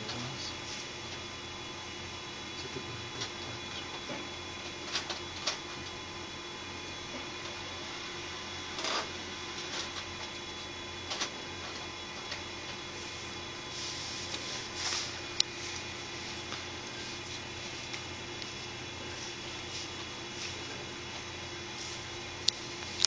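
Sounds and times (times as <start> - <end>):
electrical hum and whine: 0.0 - 23.0.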